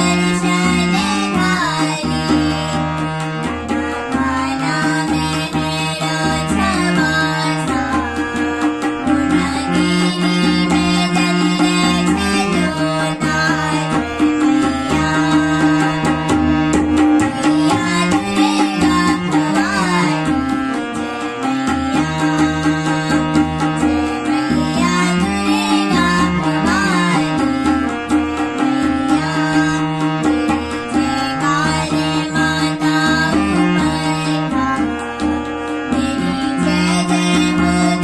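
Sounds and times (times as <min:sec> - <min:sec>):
girls singing devotional song: 0:00.0 - 0:38.0
harmonium chords: 0:00.0 - 0:38.0
tabla rhythm: 0:00.0 - 0:38.0.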